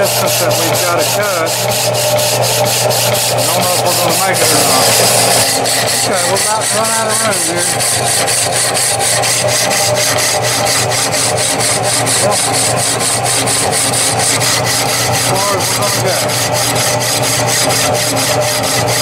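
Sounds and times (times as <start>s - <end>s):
power saw cutting metal: 0.0s - 19.0s.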